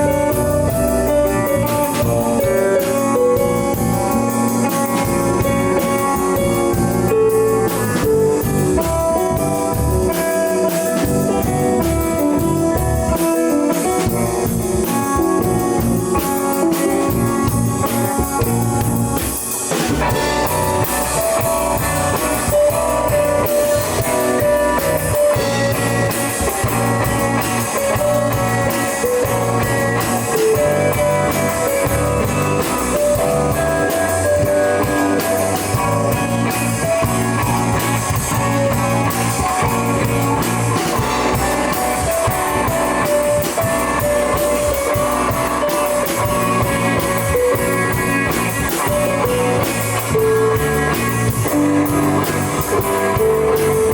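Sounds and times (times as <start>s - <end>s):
drum kit playing: 0.0s - 53.9s
electric guitar playing: 0.0s - 53.9s.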